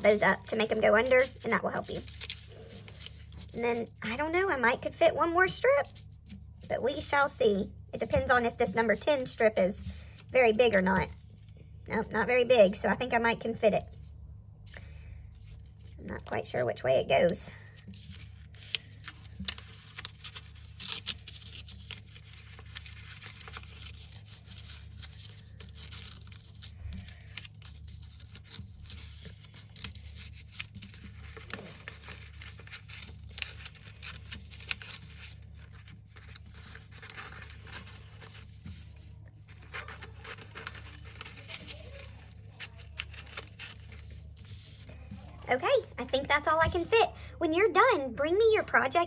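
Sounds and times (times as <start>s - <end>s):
paper strips rustling and scraping: 0.0s - 13.3s, 14.7s - 46.9s.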